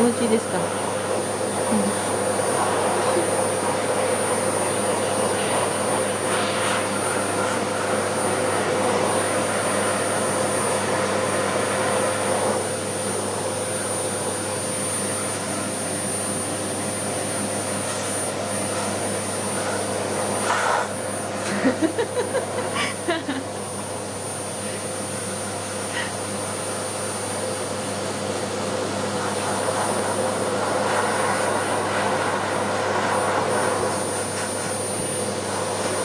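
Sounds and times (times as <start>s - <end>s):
vacuum cleaner whining: 0.0s - 36.0s.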